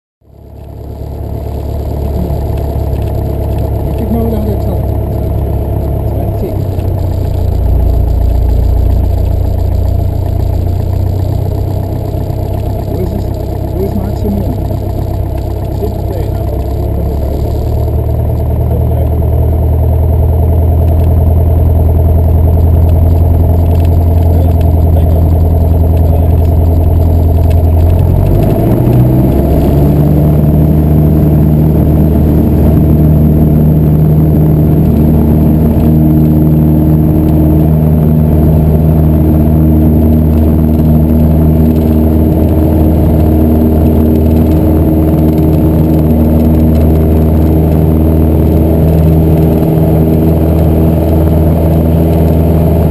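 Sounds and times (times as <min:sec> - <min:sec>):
light aircraft engine and propeller: 0:00.2 - 0:52.9.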